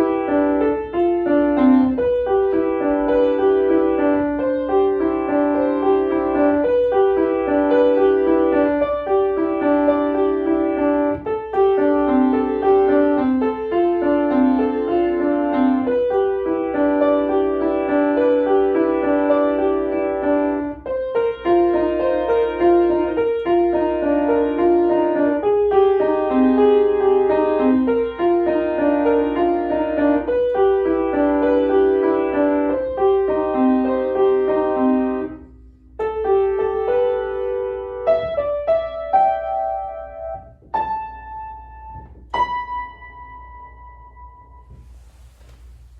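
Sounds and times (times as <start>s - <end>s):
solo piano: 0.0s - 45.9s.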